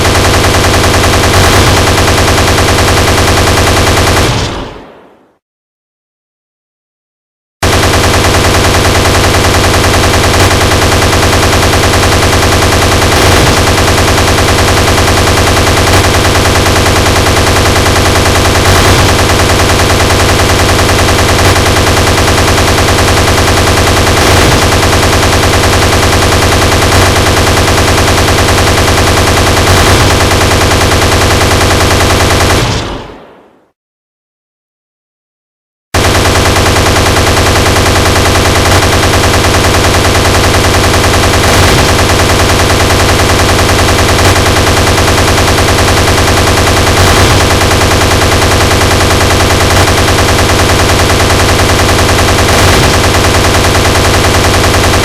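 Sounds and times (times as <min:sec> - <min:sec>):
automatic gunfire: 0:00.0 - 0:05.3, 0:07.6 - 0:33.7, 0:36.0 - 0:55.0.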